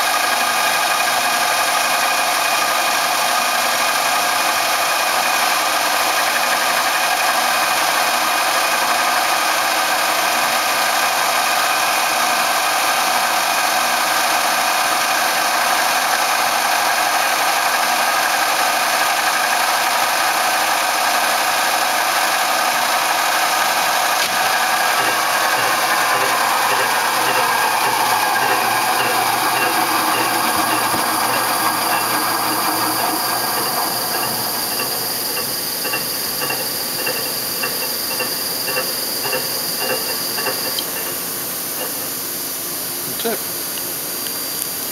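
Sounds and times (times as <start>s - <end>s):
drilling machine whine: 0.0s - 42.2s.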